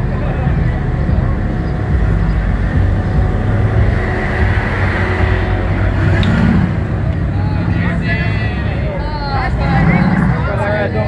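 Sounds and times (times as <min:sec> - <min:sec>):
car engine at low revs: 0:00.0 - 0:11.0.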